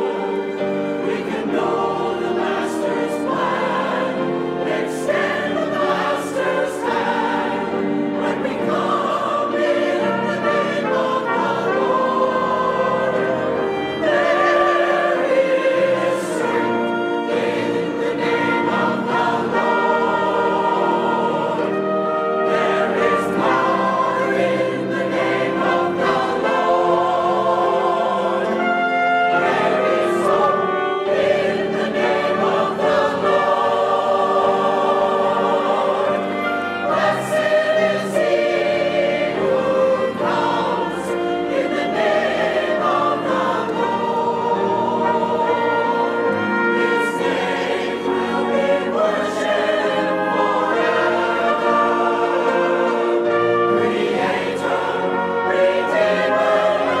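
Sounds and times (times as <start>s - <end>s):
brass instruments playing: 0.0s - 57.0s
choir singing a hymn: 0.0s - 57.0s
piano: 0.0s - 57.0s.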